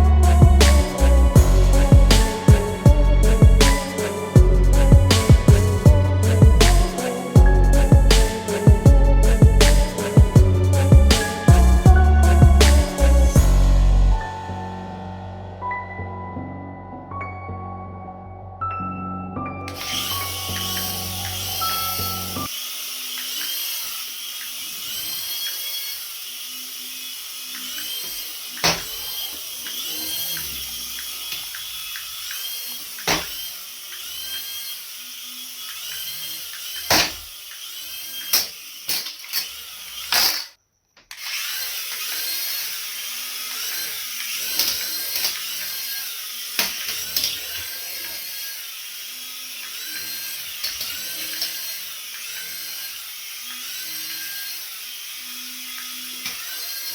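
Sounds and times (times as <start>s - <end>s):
electric toy motor whining: 0.0s - 13.5s, 19.7s - 56.9s.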